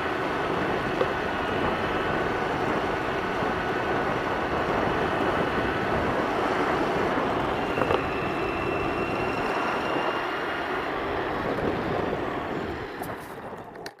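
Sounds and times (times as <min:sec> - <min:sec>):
faint high whine: 0:00.0 - 0:13.7
wind rush: 0:00.0 - 0:13.9
rolling road noise on asphalt: 0:00.0 - 0:14.0.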